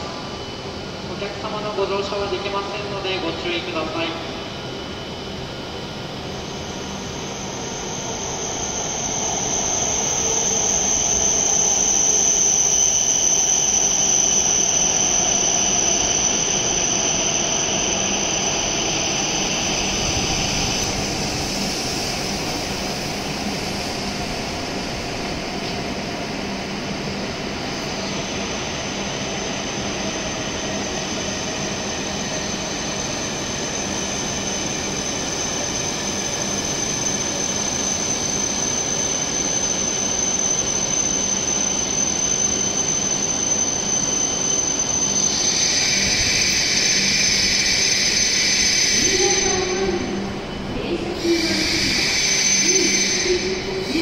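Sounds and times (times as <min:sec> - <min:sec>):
high-pitched train whine: 0:00.0 - 0:54.0
train running noise: 0:00.0 - 0:54.0.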